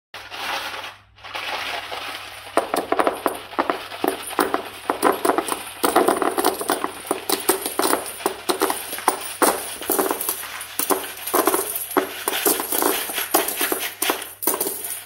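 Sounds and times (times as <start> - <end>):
coins clinking and jingling: 2.6 - 15.0.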